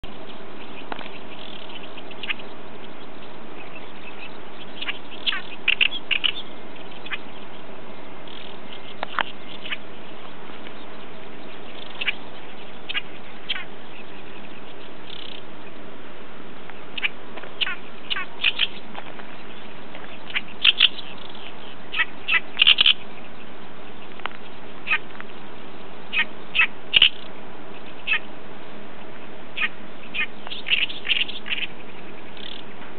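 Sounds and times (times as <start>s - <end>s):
bird calling: 0.0s - 15.8s, 16.6s - 28.4s, 29.0s - 32.9s.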